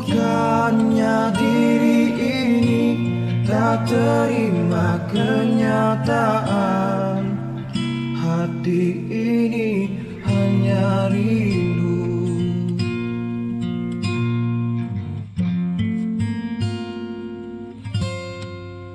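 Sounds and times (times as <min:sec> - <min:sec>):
acoustic guitar strumming chords: 0:00.0 - 0:18.9.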